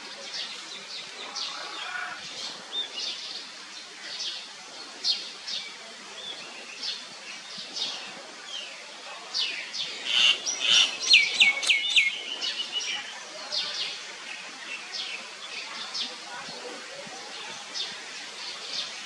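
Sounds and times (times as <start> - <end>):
wild birds chirping: 0.1 - 8.8, 9.4 - 16.1.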